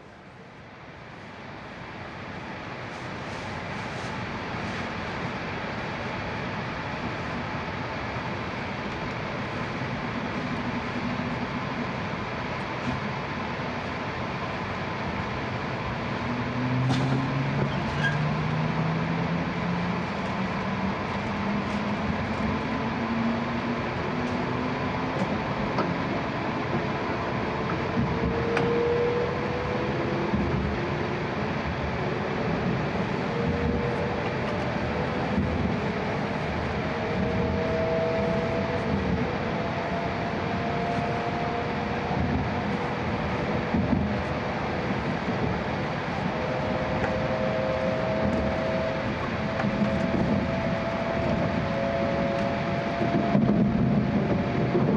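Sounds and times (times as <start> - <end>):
train cabin rumble: 0.0 - 54.9.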